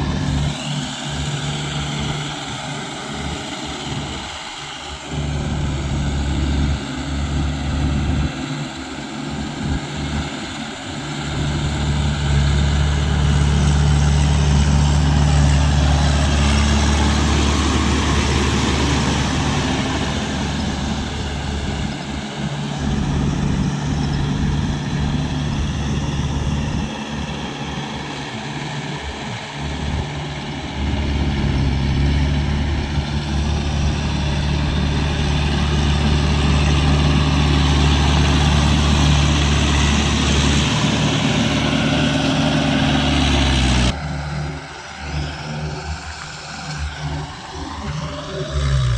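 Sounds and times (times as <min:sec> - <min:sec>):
tractor engine droning: 0:00.0 - 0:48.9.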